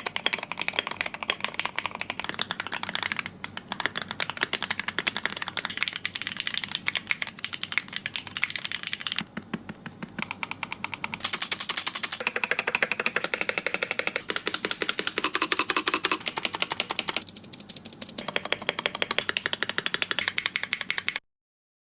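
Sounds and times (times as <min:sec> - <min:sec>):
rapid keyboard typing: 0:00.0 - 0:21.2.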